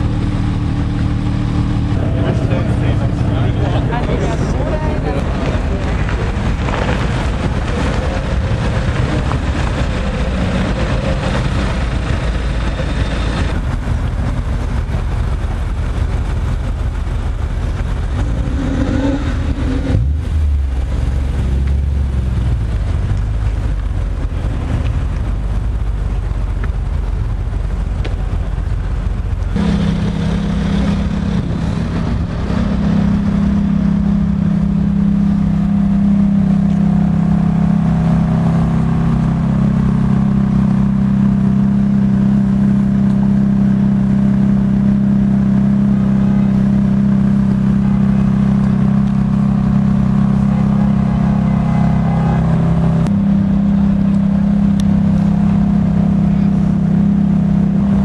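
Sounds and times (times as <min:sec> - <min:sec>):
car engine droning: 0:00.0 - 0:58.0
car engine idling and revving: 0:00.0 - 0:58.0.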